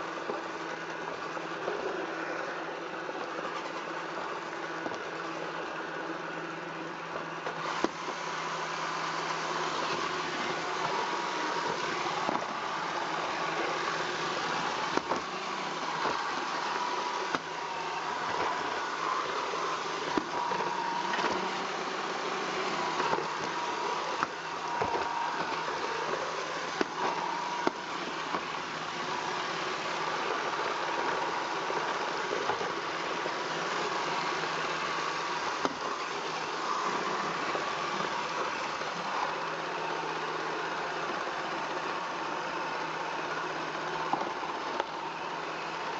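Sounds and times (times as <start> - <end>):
robot vacuum motor whine: 0.0 - 45.9.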